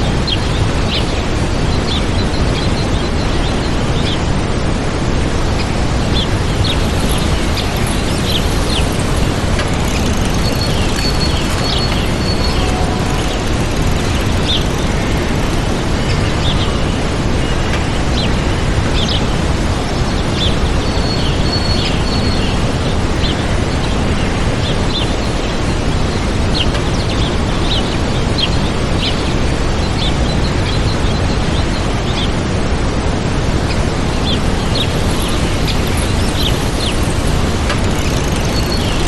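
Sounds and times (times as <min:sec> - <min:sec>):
small birds chirping: 0:00.0 - 0:32.8, 0:33.6 - 0:39.0
waterfall rushing: 0:00.0 - 0:39.0.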